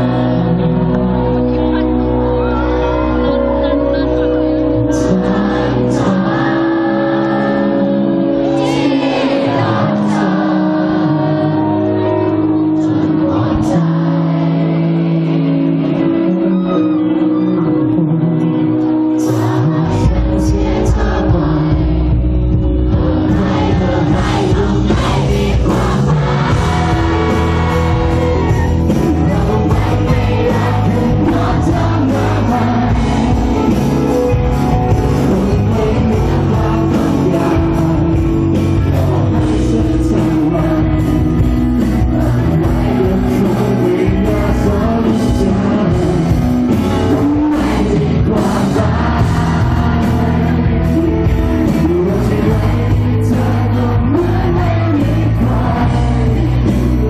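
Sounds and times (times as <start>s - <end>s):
live rock band playing: 0.0s - 57.0s
male lead vocals: 0.0s - 57.0s.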